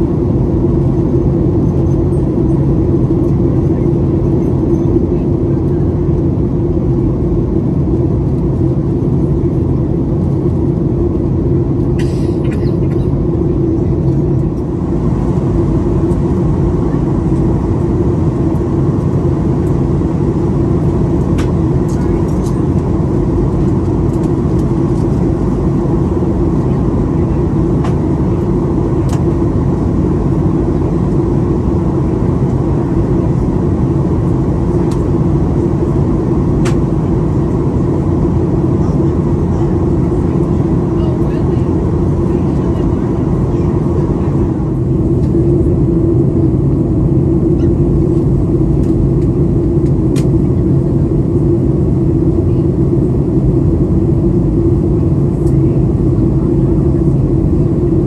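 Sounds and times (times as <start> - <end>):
airplane cabin engine noise: 0.0 - 58.0
constant hum: 0.0 - 58.0.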